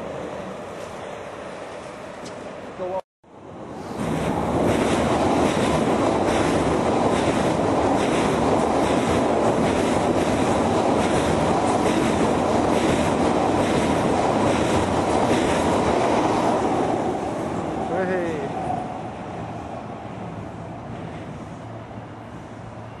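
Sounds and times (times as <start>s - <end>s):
train wheels rushing on rail: 3.6s - 23.0s.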